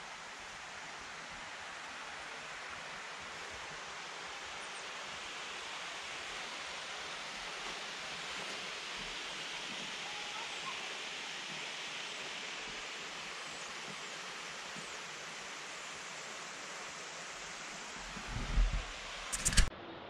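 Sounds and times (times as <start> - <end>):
rushing water: 0.0 - 19.4.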